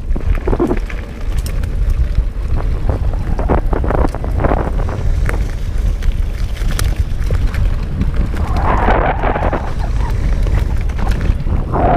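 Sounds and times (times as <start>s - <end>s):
bike rattles and clicks: 0.0s - 11.9s
bike rumbling over dirt trail: 0.0s - 11.9s
wind buffeting microphone: 0.0s - 11.9s.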